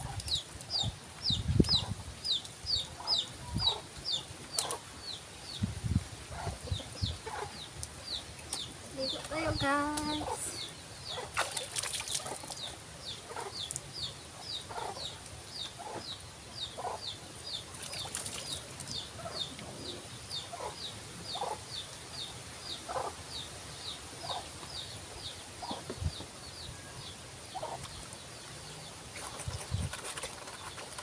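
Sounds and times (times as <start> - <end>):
chickens clucking: 0.0 - 5.7, 6.3 - 31.0.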